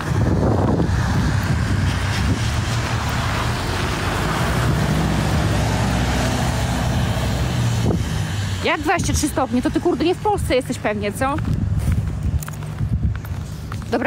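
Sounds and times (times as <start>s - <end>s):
large engine droning: 0.0s - 12.0s
wind noise on microphone: 0.0s - 14.0s.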